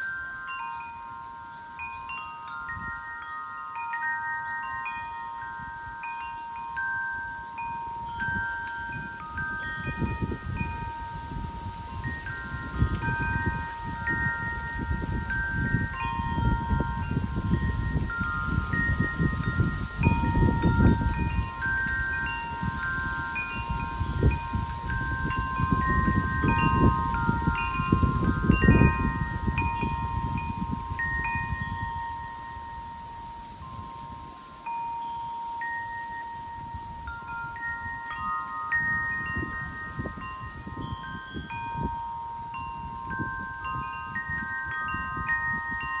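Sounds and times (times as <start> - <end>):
low rumbling wind gusts: 0.0 - 46.0
wind chimes ringing: 0.0 - 46.0.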